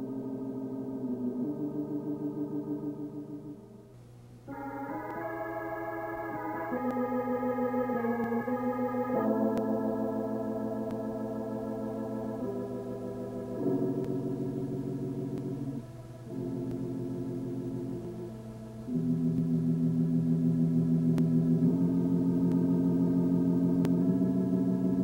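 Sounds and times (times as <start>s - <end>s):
organ chords with tremolo: 0.0s - 3.7s, 4.4s - 25.0s.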